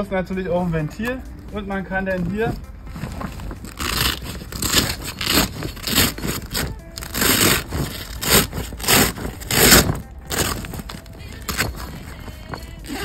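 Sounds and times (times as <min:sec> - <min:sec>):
fabric scraping and rustling: 0:00.5 - 0:13.0.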